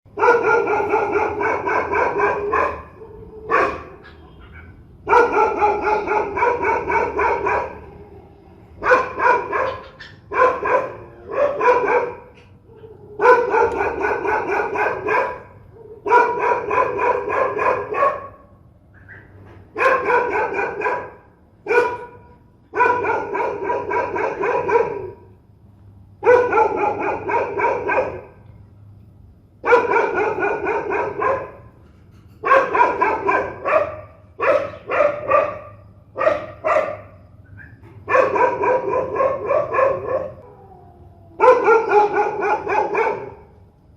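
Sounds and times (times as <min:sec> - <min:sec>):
dog barking fiercely: 0:00.1 - 0:08.1, 0:08.7 - 0:25.3, 0:26.2 - 0:28.4, 0:29.5 - 0:31.8, 0:32.4 - 0:40.5, 0:41.4 - 0:43.6.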